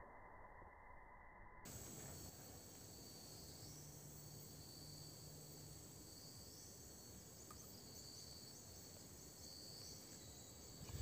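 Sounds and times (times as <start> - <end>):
insects chirring: 0.0 - 11.0
short insect chirps: 0.0 - 11.0.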